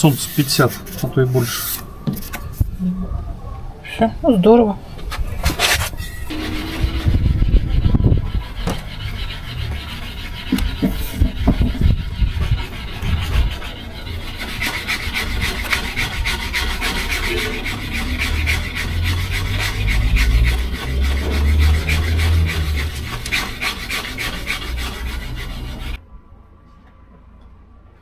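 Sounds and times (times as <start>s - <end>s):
sandpaper scraping a surface: 0.0s - 2.7s, 5.1s - 26.0s.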